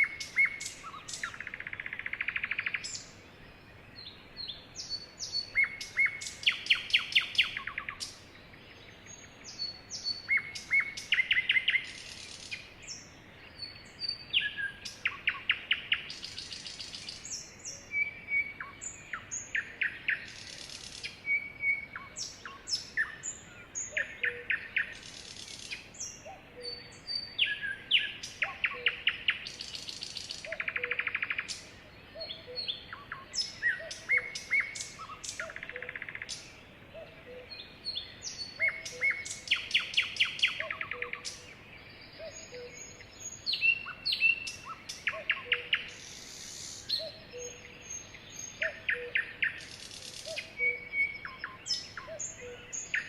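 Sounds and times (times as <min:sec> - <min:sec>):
sparrow chirping and trilling: 0:00.0 - 0:03.2, 0:04.4 - 0:08.3, 0:09.2 - 0:53.0.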